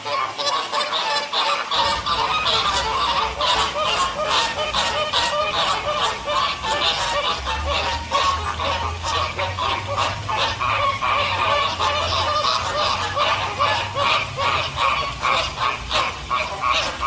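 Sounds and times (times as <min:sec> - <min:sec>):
waterfowl flock calling: 0:00.0 - 0:17.0
low steady rumble: 0:01.3 - 0:17.0.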